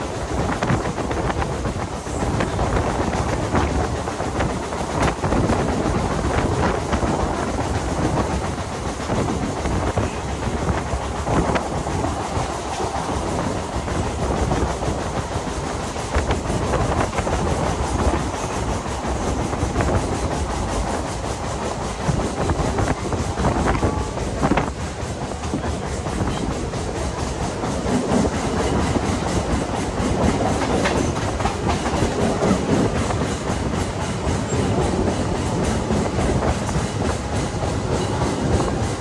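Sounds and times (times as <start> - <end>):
train wheels rumbling on rail: 0.0 - 39.0
wheels clacking over rail joints: 0.0 - 39.0.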